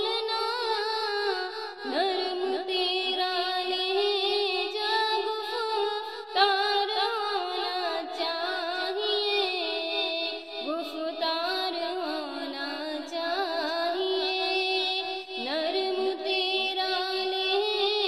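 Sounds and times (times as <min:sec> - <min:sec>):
high voice singing devotional song: 0:00.0 - 0:18.0.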